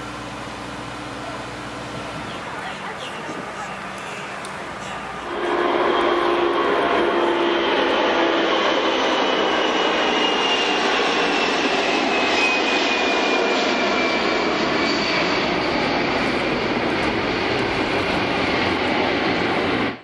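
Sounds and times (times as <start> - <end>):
high descending engine whine: 0.0 - 20.0
jet engines running: 0.0 - 20.0.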